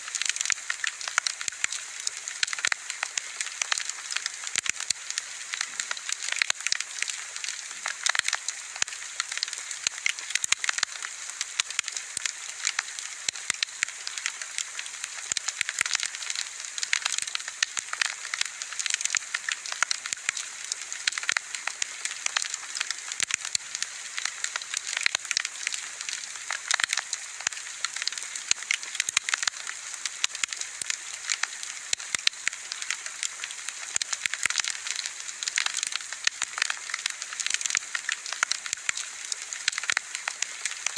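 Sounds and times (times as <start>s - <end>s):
bonfire crackling and popping: 0.1s - 40.9s.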